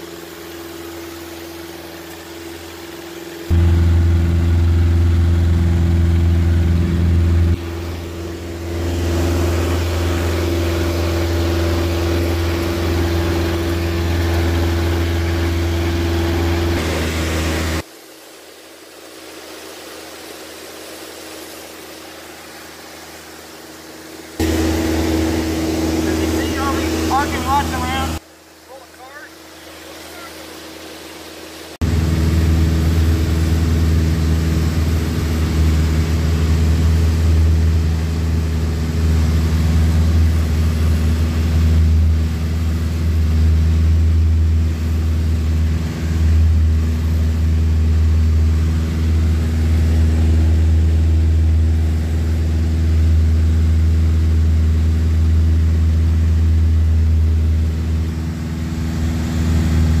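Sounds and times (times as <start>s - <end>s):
aircraft engine and propeller: 0.0s - 60.0s.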